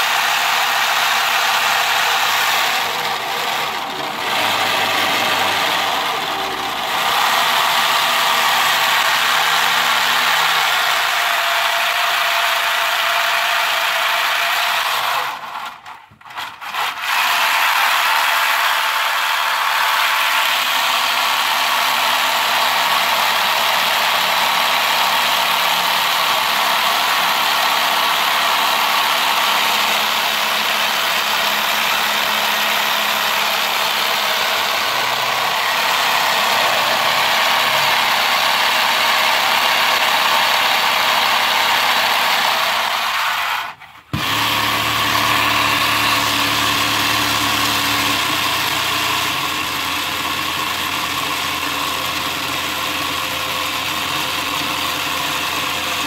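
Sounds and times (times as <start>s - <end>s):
model engine clattering and whirring: 0.0s - 56.0s.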